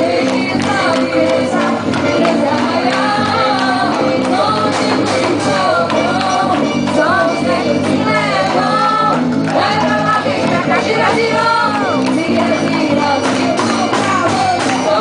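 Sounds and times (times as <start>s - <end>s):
singing over folk band: 0.0s - 15.0s
steady percussion beat: 0.0s - 15.0s.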